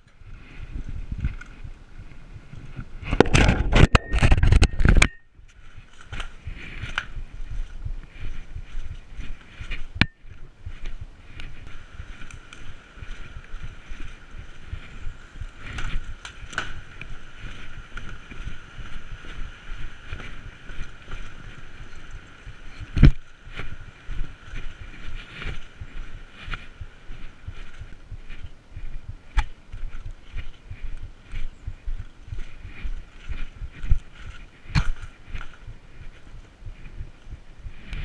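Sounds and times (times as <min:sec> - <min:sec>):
clothing and gear rustling: 0:00.0 - 0:38.0
footsteps: 0:00.0 - 0:38.0.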